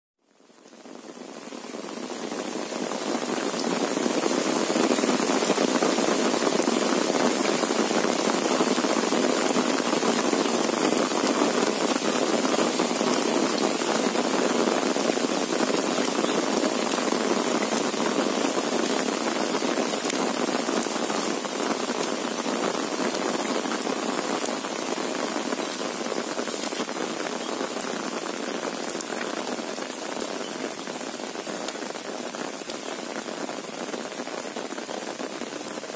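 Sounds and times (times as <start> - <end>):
heavy rain on umbrella: 0.2 - 35.9.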